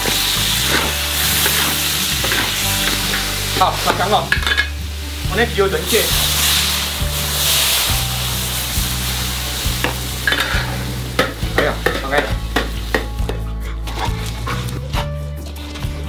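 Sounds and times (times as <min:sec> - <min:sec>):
metal spatula scraping wok: 0:00.0 - 0:13.0
sizzle and hiss of steam: 0:00.0 - 0:13.1.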